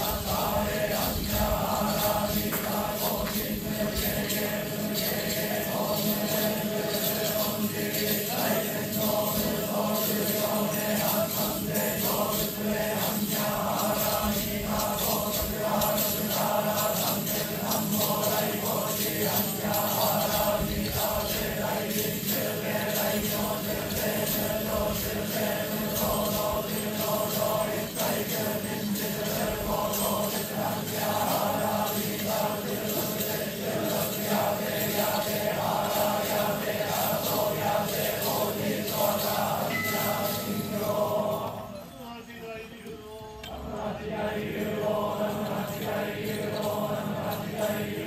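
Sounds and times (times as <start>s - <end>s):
group chanting in unison: 0.0s - 41.8s, 43.4s - 48.0s.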